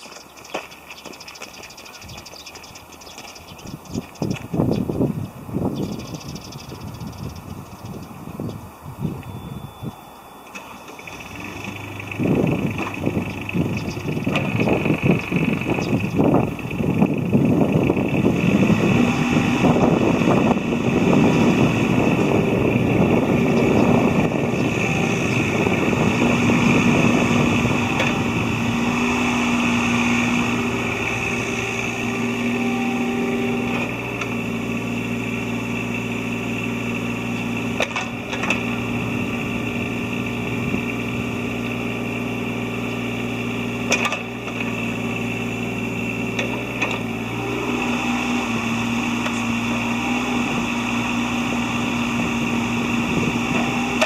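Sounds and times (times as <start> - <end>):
excavator diesel engine running: 0.0 - 54.0
hydraulic whine: 8.2 - 54.0.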